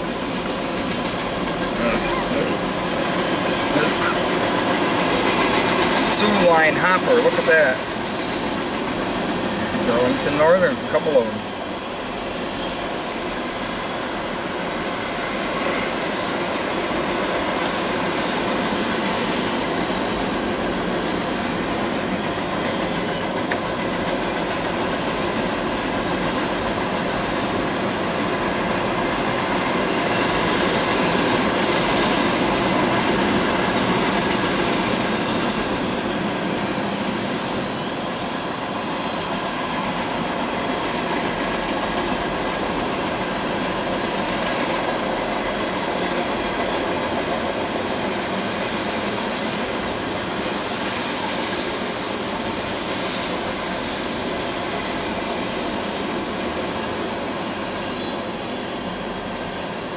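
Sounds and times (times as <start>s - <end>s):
freight train wheels clattering: 0.0s - 9.8s, 13.3s - 38.0s, 38.6s - 58.2s.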